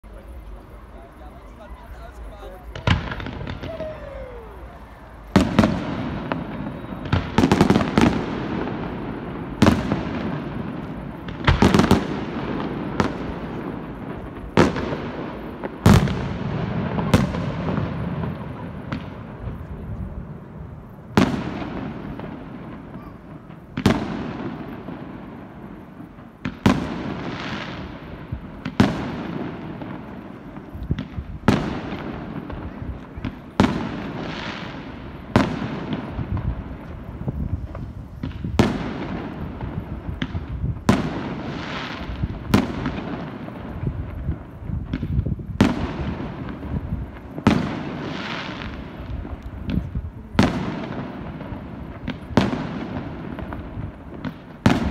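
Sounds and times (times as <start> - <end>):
firework booms: 0.0 - 54.9
firework crackle: 0.0 - 54.9.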